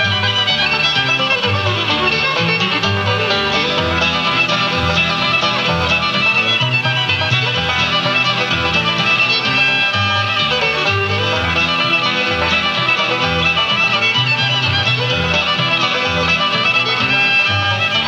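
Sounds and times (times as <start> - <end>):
fiddle: 0.0 - 18.0
guitar: 0.0 - 18.0.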